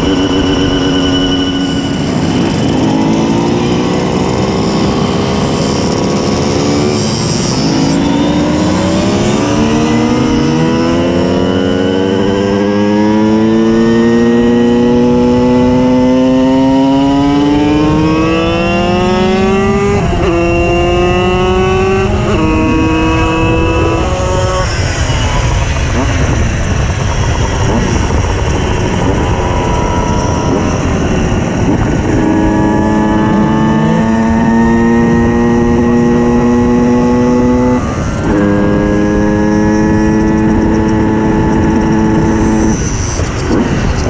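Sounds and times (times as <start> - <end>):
two-stroke moped accelerating: 0.0 - 44.0.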